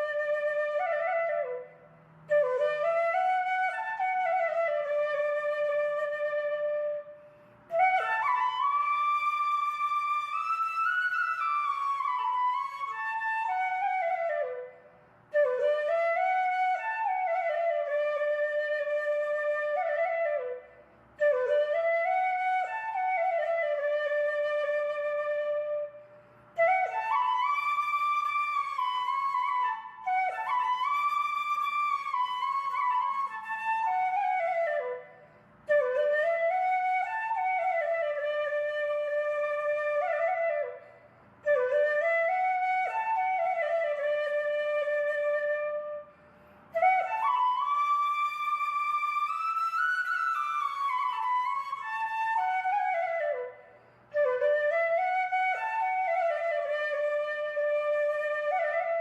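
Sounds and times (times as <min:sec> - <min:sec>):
solo flute melody: 0:00.0 - 0:59.0.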